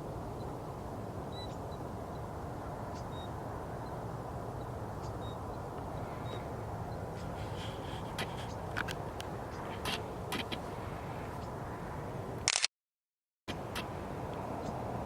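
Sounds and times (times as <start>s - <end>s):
distant birds peeping: 0.0s - 12.3s, 13.5s - 15.0s
low outdoor rumble: 0.0s - 12.4s.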